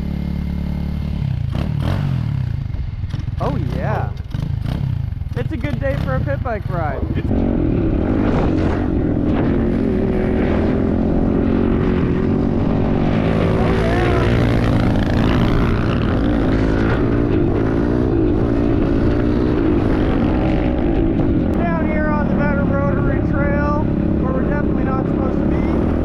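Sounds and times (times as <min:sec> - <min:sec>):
pit bike engine running: 0:00.0 - 0:26.0
wind noise: 0:02.8 - 0:26.0.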